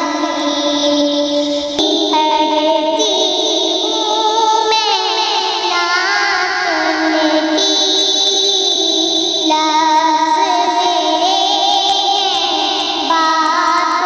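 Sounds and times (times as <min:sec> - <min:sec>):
woman singing devotional song: 0:00.0 - 0:14.0.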